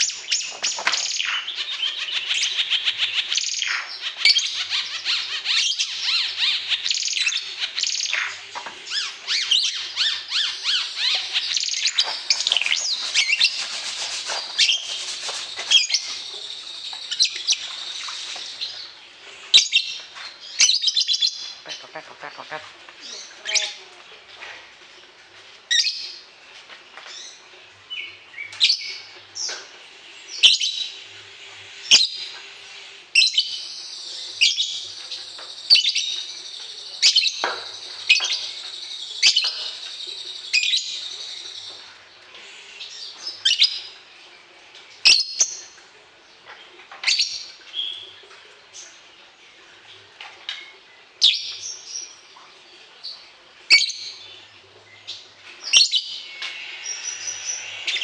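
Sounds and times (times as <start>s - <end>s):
songbird chirping: 0.0s - 25.0s, 25.7s - 58.0s.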